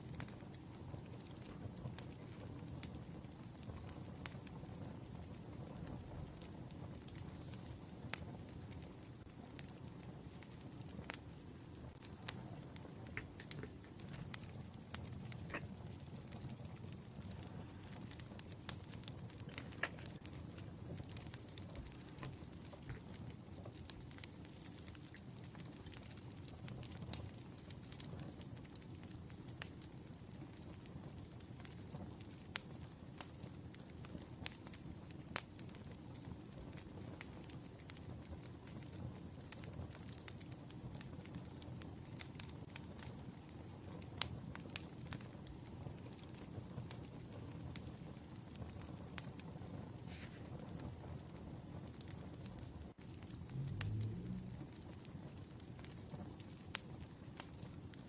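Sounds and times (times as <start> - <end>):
low steady fire rumble: 0.0 - 58.0
wood fire crackling and popping: 0.0 - 58.0.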